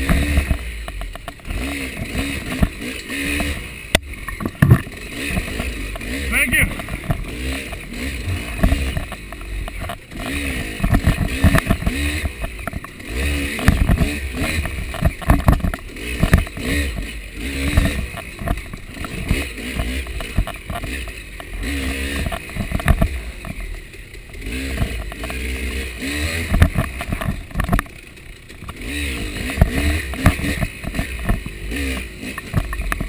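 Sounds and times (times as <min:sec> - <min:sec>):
bike knocking and clattering: 0:00.0 - 0:33.0
motorbike engine revving: 0:00.0 - 0:33.0.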